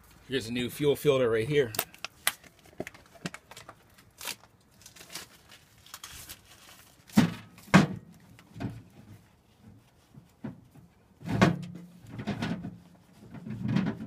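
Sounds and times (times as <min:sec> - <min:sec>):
rustling: 0:01.6 - 0:14.0.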